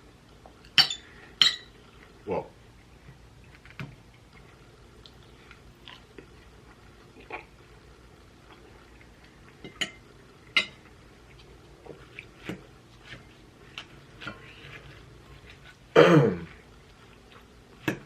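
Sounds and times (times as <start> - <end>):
soft chewing: 1.7 - 18.0.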